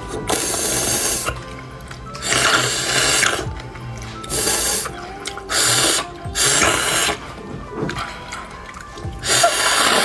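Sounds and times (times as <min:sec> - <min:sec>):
background music: 0:00.0 - 0:10.0
wet slurping of bone marrow: 0:00.0 - 0:10.0.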